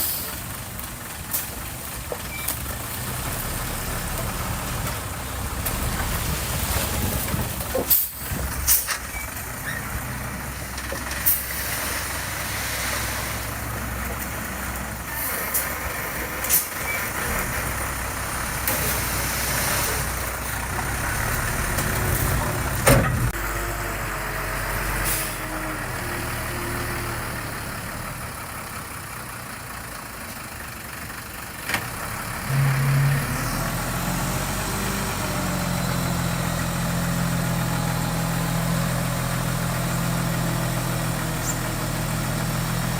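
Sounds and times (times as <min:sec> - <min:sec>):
heavy machinery diesel engine: 0:00.0 - 0:42.9.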